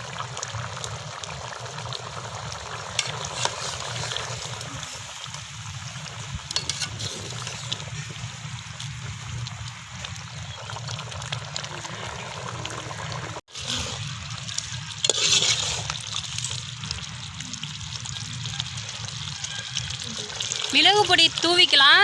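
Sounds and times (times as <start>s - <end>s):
gravy bubbling in a pot: 0.0s - 22.0s.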